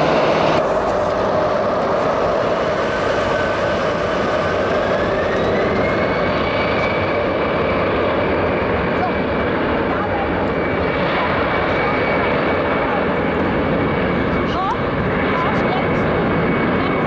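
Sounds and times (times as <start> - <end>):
thin engine whine: 0.0 - 16.9
jet engine roar: 0.0 - 17.0.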